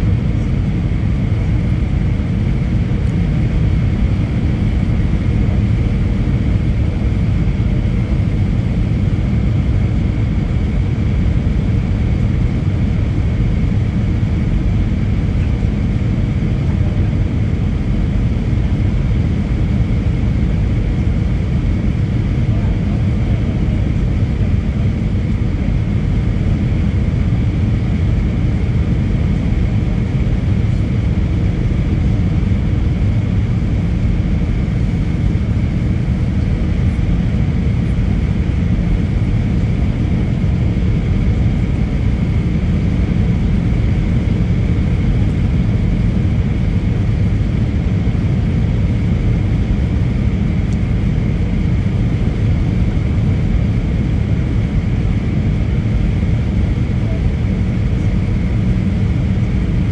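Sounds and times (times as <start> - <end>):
faint high hum: 0.0 - 59.9
jet engine and airflow rumble: 0.0 - 59.9.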